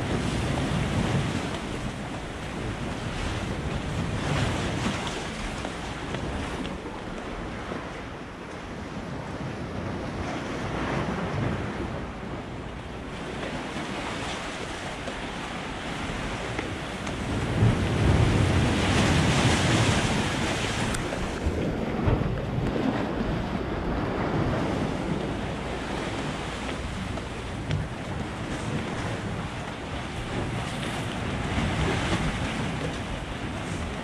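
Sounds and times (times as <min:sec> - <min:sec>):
sea water washing: 0:00.0 - 0:34.0
wind buffeting microphone: 0:00.0 - 0:34.0.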